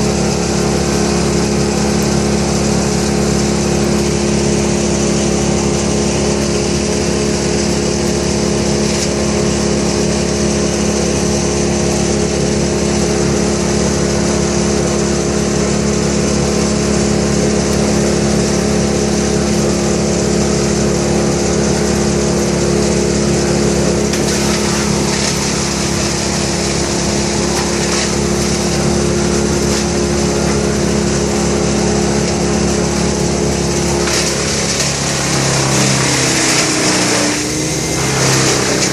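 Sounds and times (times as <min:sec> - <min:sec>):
petrol engine running: 0:00.0 - 0:38.9.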